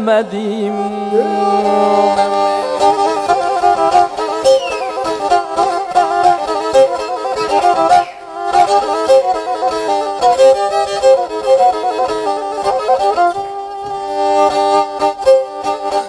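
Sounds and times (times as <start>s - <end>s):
bowed string folk-dance melody: 0.0s - 16.0s.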